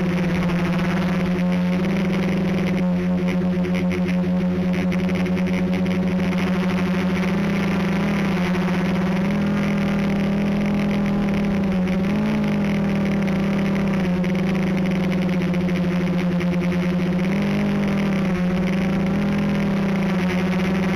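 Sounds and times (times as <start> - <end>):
drone propellers whirring: 0.0 - 20.9.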